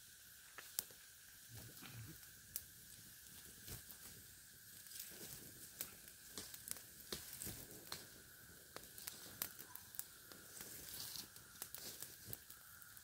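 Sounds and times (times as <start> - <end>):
campfire crackling: 0.0 - 13.0
faint hiss: 0.0 - 13.0
fire pops and snaps: 0.1 - 13.0.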